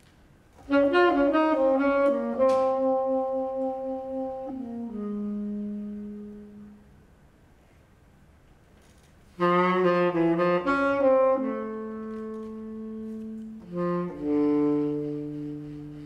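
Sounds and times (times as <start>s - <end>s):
tenor saxophone jazz ballad: 0.5s - 7.2s, 9.2s - 16.0s.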